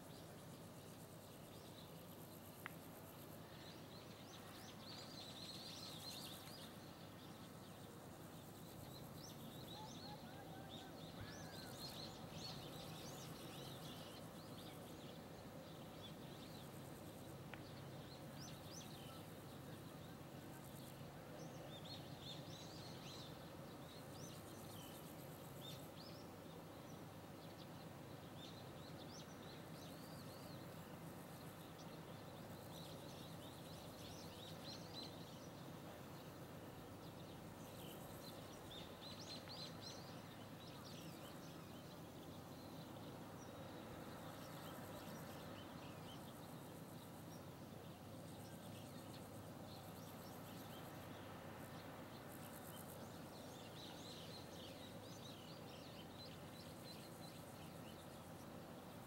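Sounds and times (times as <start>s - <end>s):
small birds chirping: 11.3s - 59.0s.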